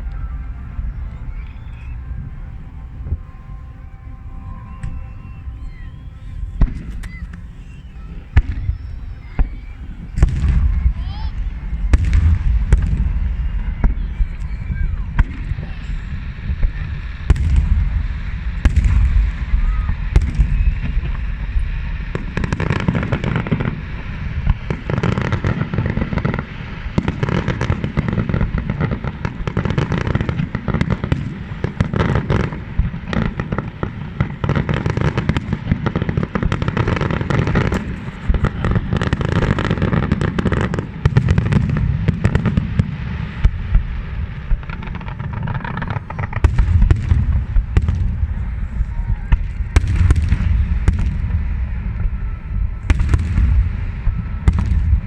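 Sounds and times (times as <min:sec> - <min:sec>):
heavy low rumble: 0:00.0 - 0:34.6, 0:35.2 - 0:55.0
fireworks bursts and crackling bangs: 0:00.0 - 0:55.0.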